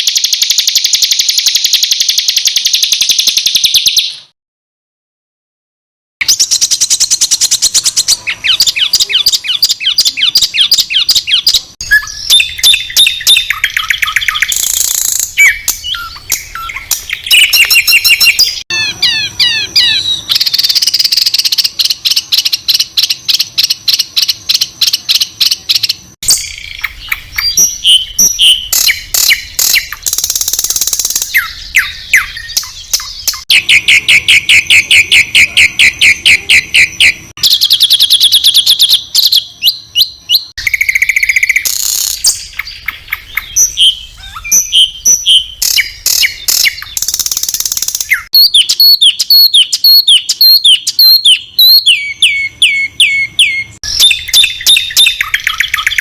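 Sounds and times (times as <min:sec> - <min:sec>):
songbird singing: 0:00.0 - 0:04.3, 0:06.2 - 0:56.0.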